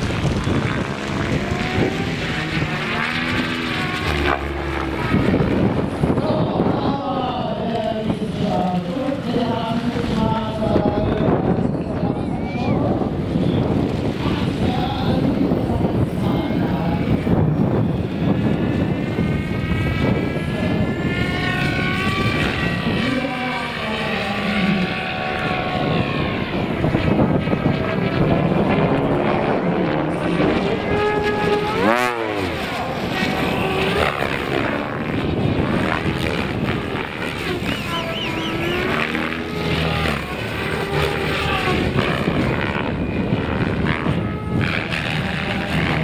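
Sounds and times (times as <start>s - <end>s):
rc helicopter rotors whining: 0.0s - 46.0s.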